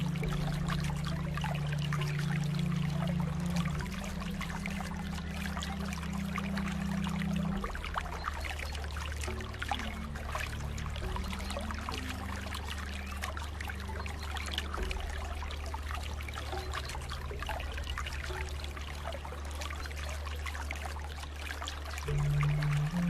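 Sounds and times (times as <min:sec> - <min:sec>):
low steady hum: 0:00.0 - 0:23.0
water trickling and splashing: 0:00.0 - 0:23.0.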